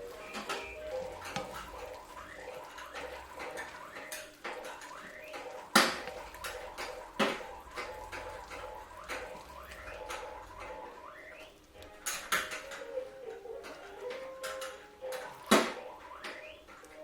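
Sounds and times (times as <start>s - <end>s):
utensils clinking against dishes: 0.0s - 10.8s, 11.8s - 17.0s.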